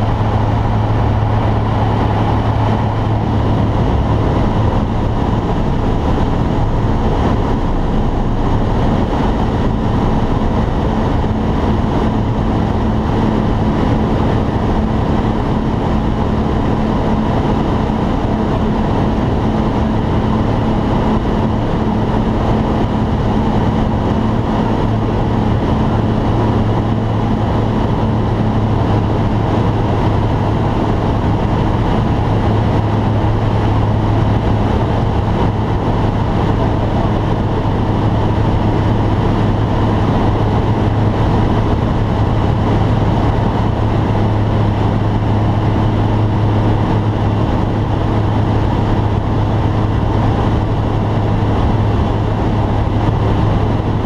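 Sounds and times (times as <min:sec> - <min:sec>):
aircraft engine and propeller drone: 0:00.0 - 0:54.0
airflow noise over cabin: 0:00.0 - 0:54.0.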